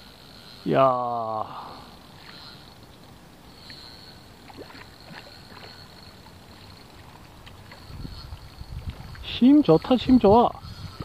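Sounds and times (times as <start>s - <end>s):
thin high whine: 0.0s - 11.0s
faint water splashing: 1.6s - 11.0s
small ticks: 1.9s - 11.0s.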